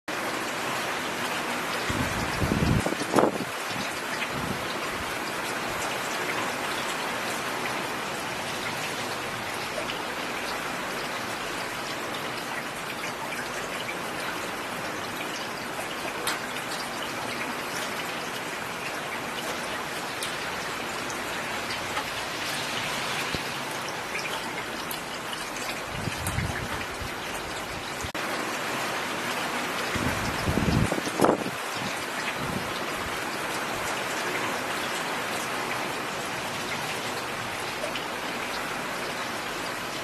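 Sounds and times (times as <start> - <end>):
rain falling on road: 0.1 - 40.0.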